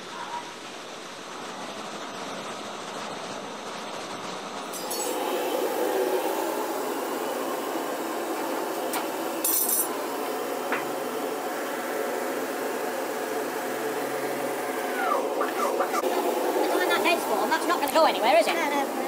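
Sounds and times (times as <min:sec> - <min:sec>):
workshop machine noise: 0:00.0 - 0:19.0.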